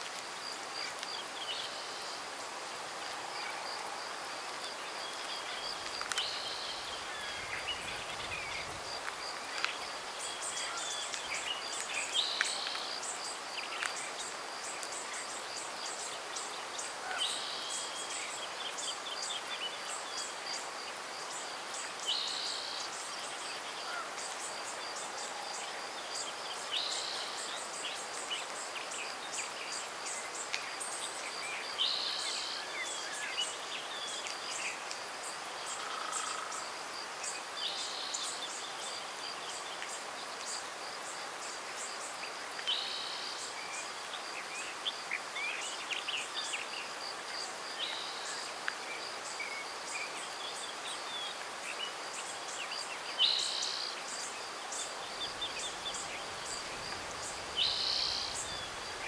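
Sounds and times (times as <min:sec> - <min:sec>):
soft even hiss: 0:00.0 - 0:59.0.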